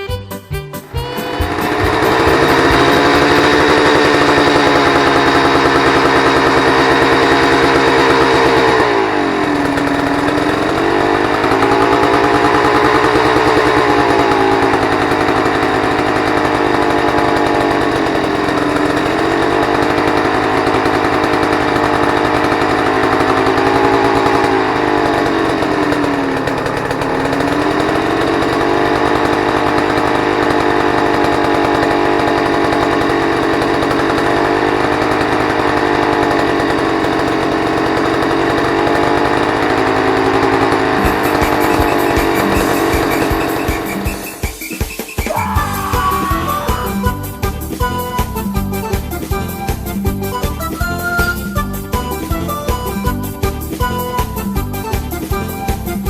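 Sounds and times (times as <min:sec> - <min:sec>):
two-stroke engine idling high: 0:00.8 - 0:56.0.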